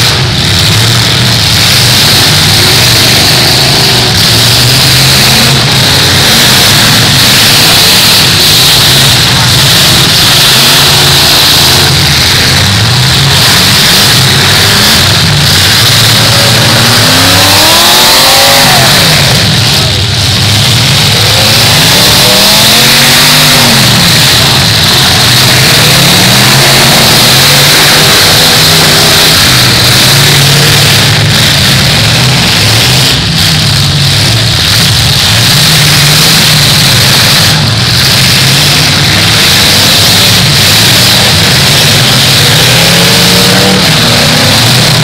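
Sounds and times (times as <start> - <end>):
car engines revving hard: 0.0 - 45.0.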